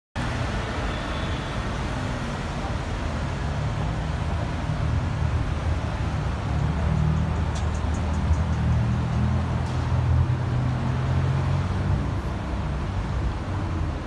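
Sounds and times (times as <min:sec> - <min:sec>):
cars driving past: 0:00.2 - 0:14.0.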